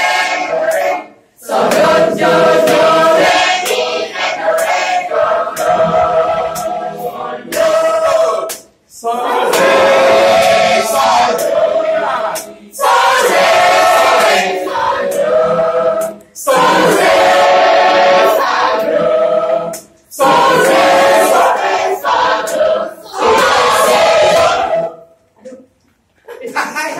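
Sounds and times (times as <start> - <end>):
mixed choir singing a hymn: 0.0 - 25.2.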